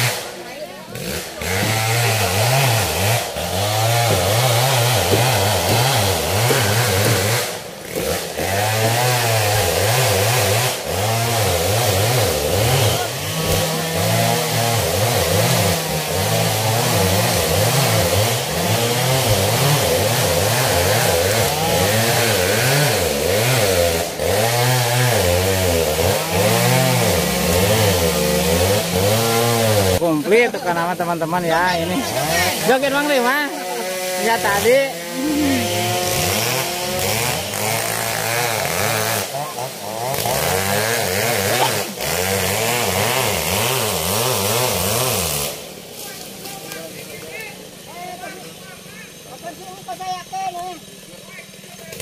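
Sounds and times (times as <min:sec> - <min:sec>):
chainsaw revving: 0:00.0 - 0:52.0.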